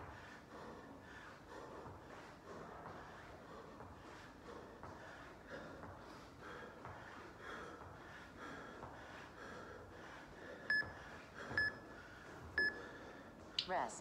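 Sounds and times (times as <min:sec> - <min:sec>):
hard rhythmic breathing: 0:00.0 - 0:13.8.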